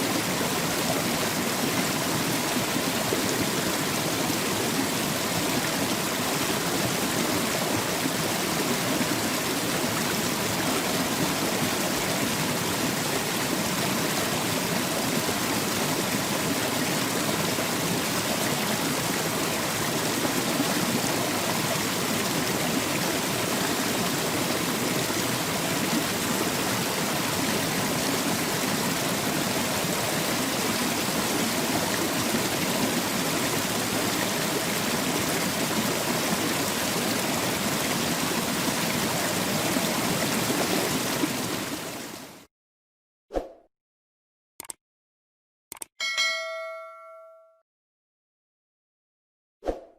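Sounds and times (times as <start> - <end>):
water rushing over rocks: 0.0 - 42.4.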